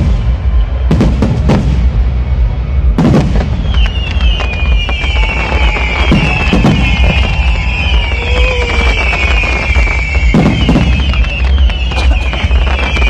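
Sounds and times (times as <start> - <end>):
deep rumble: 0.0 - 13.0
fireworks crackling: 0.0 - 13.0
low firework boom: 0.0 - 13.0.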